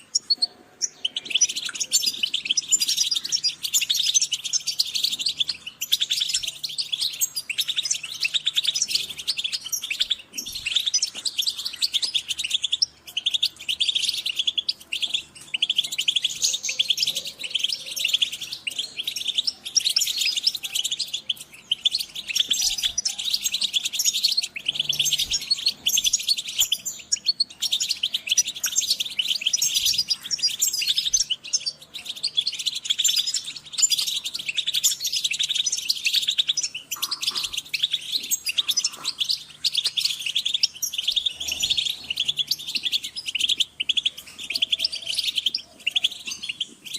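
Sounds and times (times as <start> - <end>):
goldfinches chirping and twittering: 0.0 - 46.9.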